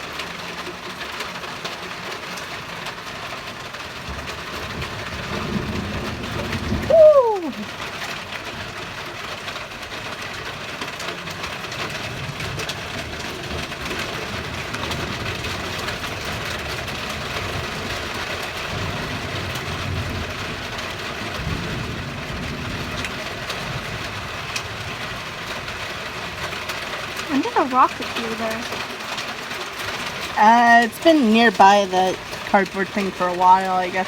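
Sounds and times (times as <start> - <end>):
rain and hail falling: 0.0 - 34.0.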